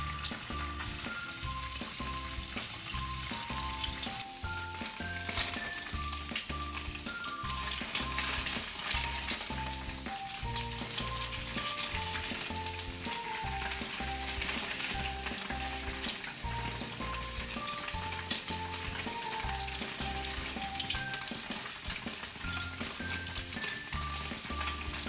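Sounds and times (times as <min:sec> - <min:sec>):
light background music: 0:00.0 - 0:25.0
tofu sizzling in oil: 0:00.0 - 0:25.0.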